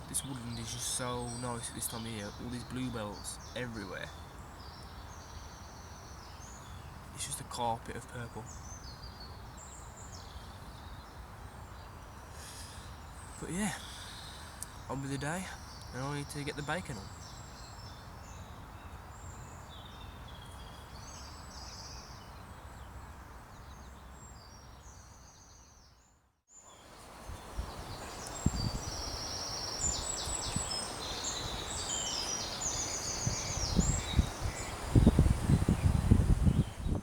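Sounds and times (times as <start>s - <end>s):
woodland ambience hiss: 0.0s - 25.9s, 26.5s - 37.0s
songbirds singing: 0.0s - 37.0s.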